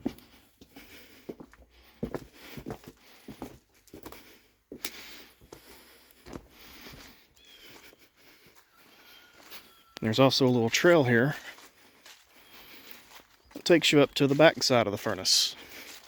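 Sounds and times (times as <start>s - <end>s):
footsteps of person walking: 0.0s - 16.0s.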